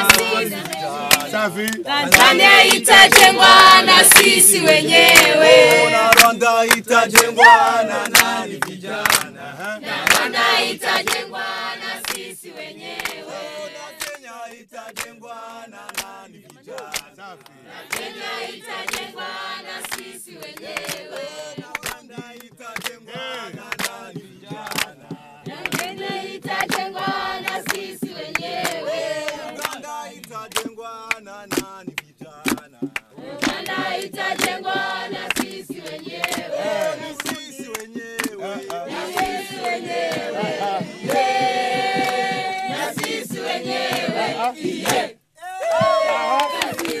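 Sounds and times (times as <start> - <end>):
group singing call-and-response: 0.0 - 47.0.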